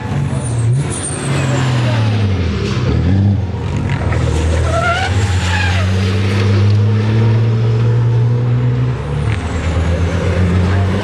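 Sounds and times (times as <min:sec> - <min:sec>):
truck diesel engines droning: 0:00.0 - 0:11.0.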